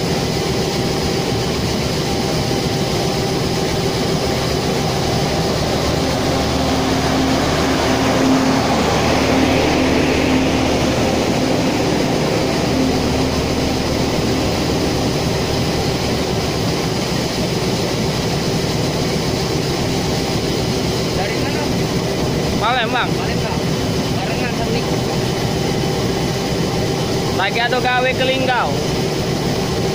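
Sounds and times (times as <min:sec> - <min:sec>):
passenger train rumbling past: 0:00.0 - 0:29.9
steady low hum: 0:00.0 - 0:29.9.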